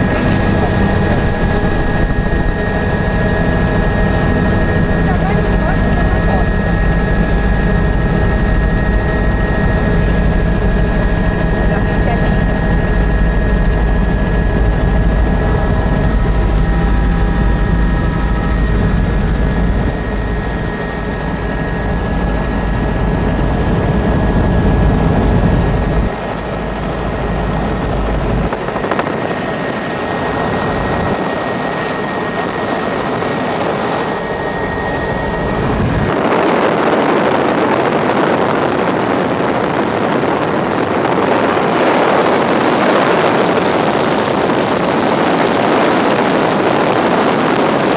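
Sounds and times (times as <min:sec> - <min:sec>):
helicopter turbine whine and rotor: 0:00.0 - 0:47.9.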